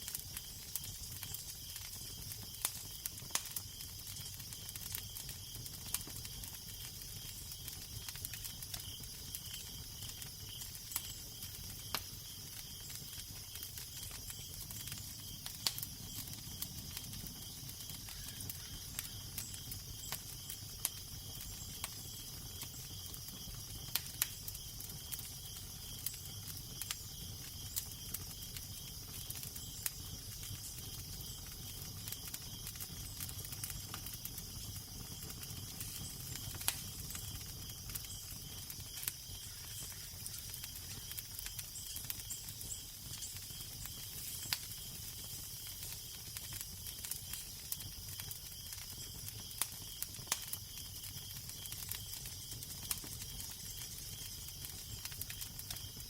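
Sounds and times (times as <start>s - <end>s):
fire popping and snapping: 0.0s - 56.0s
fireplace fire crackling: 0.0s - 56.0s.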